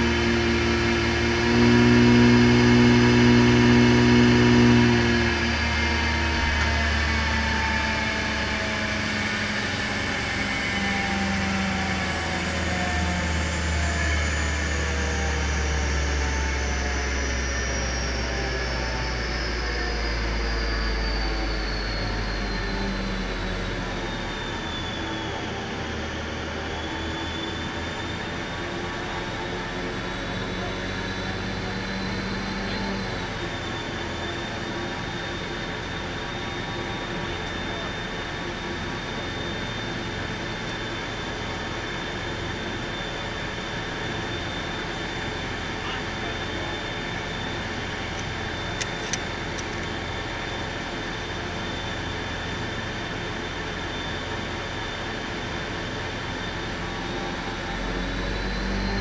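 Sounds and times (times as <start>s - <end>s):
low drone: 0.0s - 59.0s
wheels and rollers whining: 0.0s - 59.0s.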